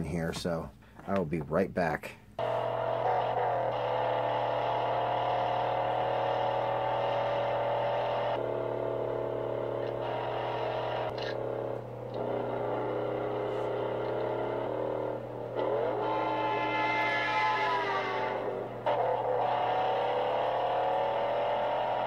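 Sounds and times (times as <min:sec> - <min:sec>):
car engine running hard: 0:02.4 - 0:22.0.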